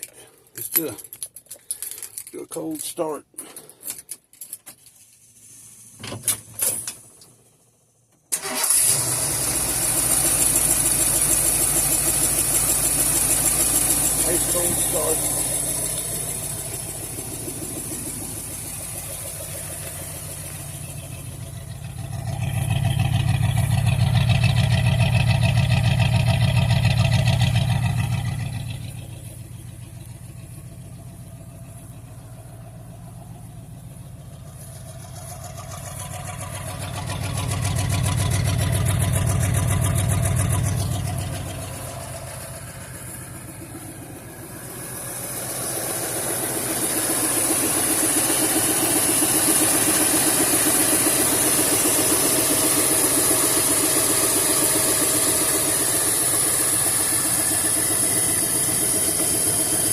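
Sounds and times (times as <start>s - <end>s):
engine running with rhythmic wup: 5.1s - 59.9s.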